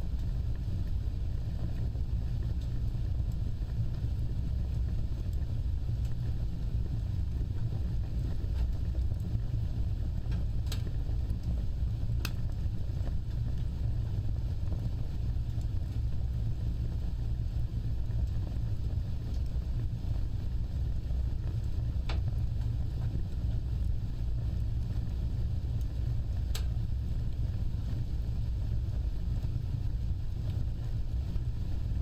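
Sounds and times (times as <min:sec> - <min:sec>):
fire popping: 0:00.0 - 0:32.0
wood fire crackling: 0:00.0 - 0:32.0.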